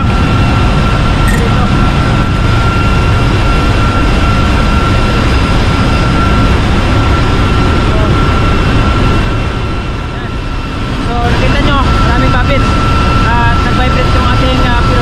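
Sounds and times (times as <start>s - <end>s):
thin machinery whine: 0.0s - 15.0s.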